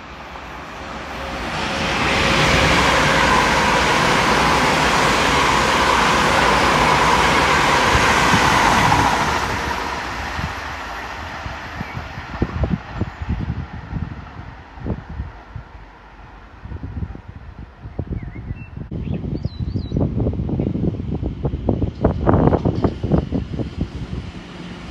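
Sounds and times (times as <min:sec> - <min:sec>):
train passing at speed: 0:00.0 - 0:18.1, 0:20.3 - 0:24.9.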